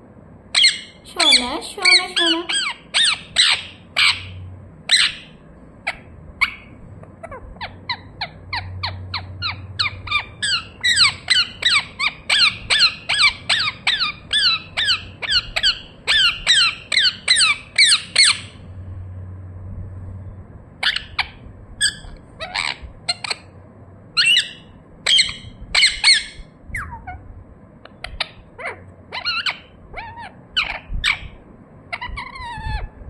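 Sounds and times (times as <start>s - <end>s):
parakeet screeching: 0.5s - 18.6s, 20.8s - 23.5s, 24.2s - 27.2s, 27.9s - 33.0s
parakeet squawks: 0.5s - 18.6s, 20.8s - 23.6s, 24.2s - 27.2s, 27.8s - 33.0s.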